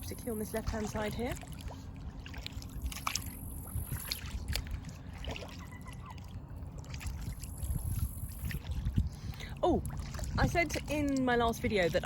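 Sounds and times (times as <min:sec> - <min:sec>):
low steady rumble: 0:00.0 - 0:12.0
water trickling and splashing: 0:00.0 - 0:12.0.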